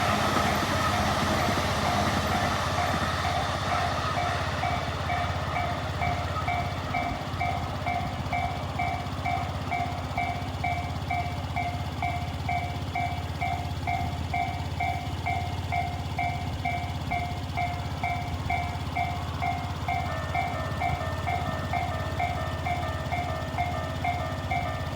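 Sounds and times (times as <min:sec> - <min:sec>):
crossing warning bell: 0:00.0 - 0:24.9.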